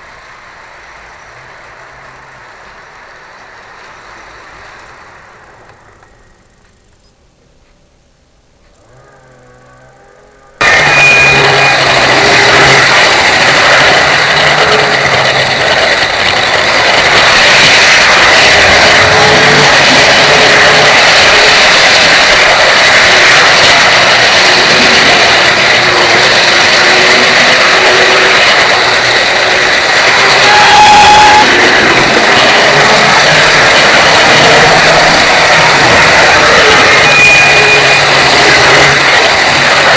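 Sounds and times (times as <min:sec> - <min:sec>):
model train motor and wheels whirring: 0:00.0 - 0:07.8, 0:10.5 - 0:39.9.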